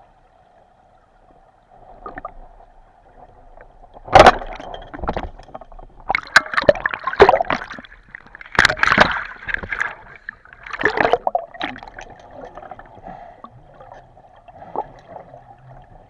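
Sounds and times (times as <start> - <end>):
water splashing and gurgling: 1.1 - 16.0.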